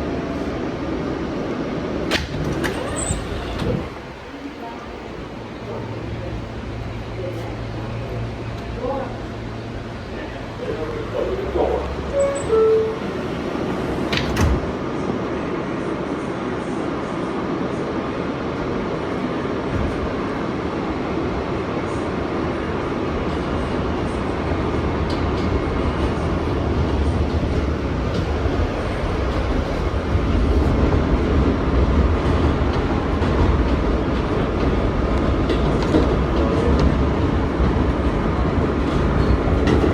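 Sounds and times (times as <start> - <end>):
subway train wheels rumbling on track: 0.0 - 39.9.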